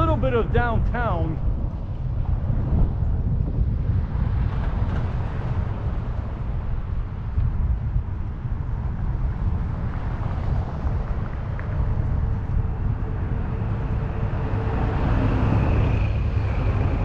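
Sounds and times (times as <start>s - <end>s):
bicycle road noise: 0.0s - 17.0s
wind rumbling on microphone: 0.0s - 17.0s.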